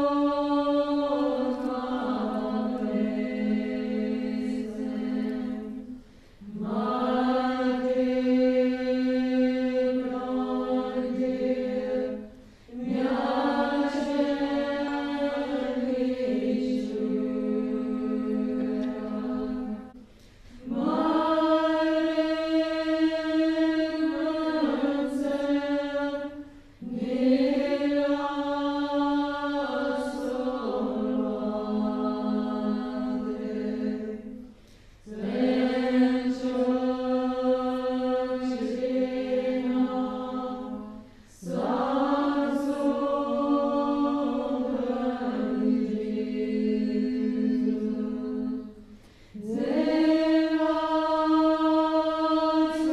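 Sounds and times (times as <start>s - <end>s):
women singing a prayer: 0.0s - 52.9s.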